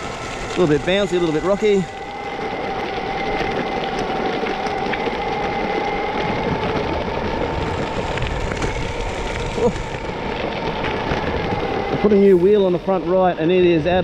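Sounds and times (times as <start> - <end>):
electric motor whine: 0.0 - 14.0
wheels rolling on gravel: 0.0 - 14.0.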